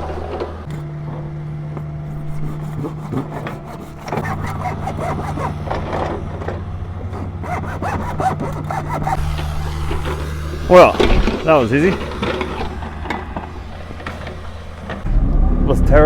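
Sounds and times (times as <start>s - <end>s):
excavator engine idling: 0.0s - 15.7s
saw rasping through pipe: 2.0s - 15.0s.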